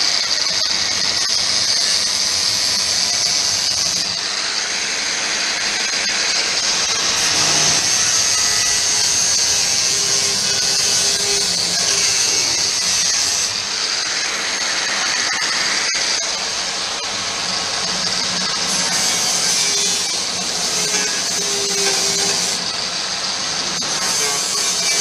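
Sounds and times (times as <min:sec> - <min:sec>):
angle grinder sanding steel: 0:00.0 - 0:25.0.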